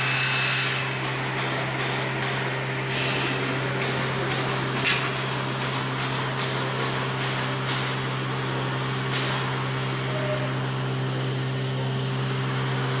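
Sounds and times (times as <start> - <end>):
laminator electric hum: 0.0 - 13.0.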